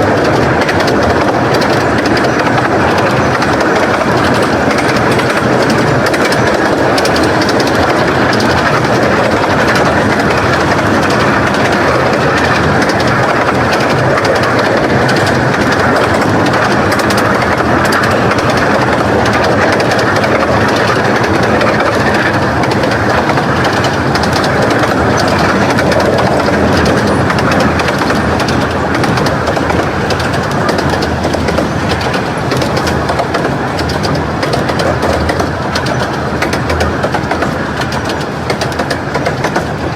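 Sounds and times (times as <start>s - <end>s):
train running on track: 0.0s - 39.9s.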